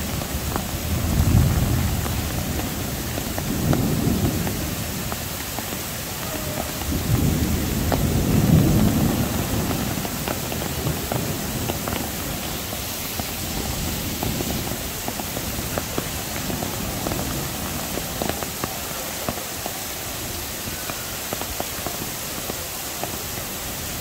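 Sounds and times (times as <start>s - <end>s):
heavy rain: 0.0s - 24.0s
raindrops splashing on hard surfaces: 0.0s - 24.0s.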